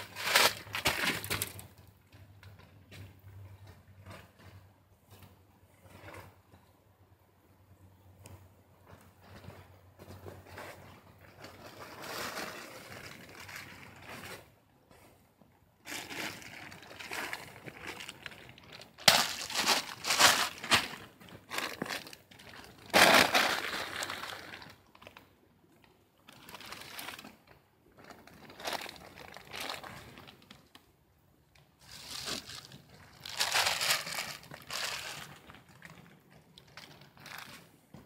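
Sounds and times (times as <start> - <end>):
rustling and crinkling: 0.0 - 38.0.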